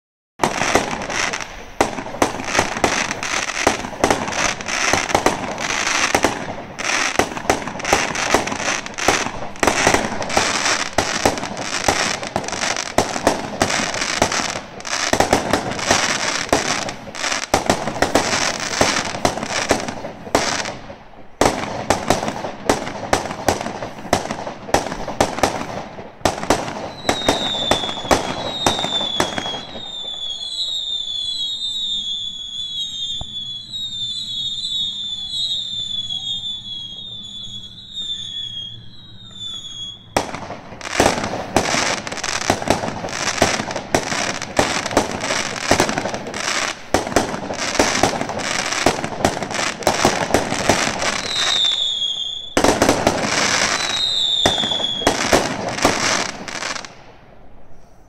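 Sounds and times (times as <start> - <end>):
fireworks bangs and crackles: 0.4 - 57.8
falling firework whistles: 0.4 - 58.0.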